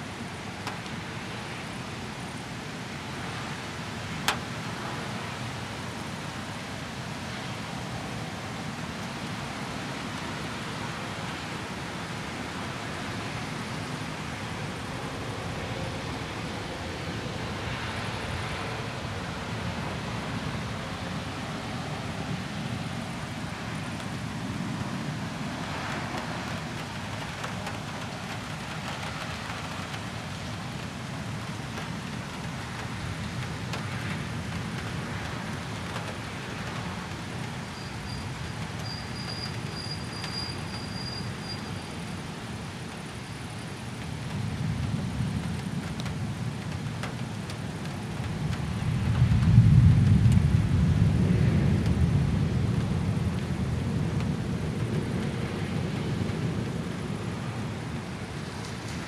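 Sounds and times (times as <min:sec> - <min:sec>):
rain: 0:00.0 - 0:59.0
wind: 0:00.0 - 0:59.0.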